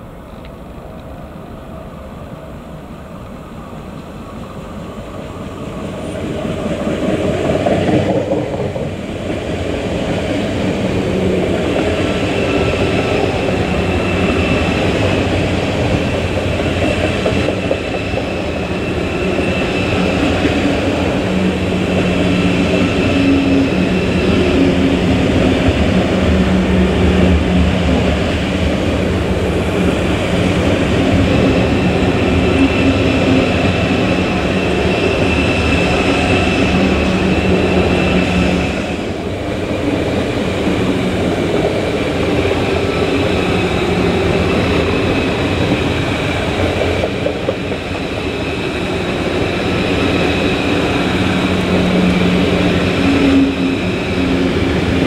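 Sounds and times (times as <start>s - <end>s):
train rolling through station: 0.0s - 55.0s.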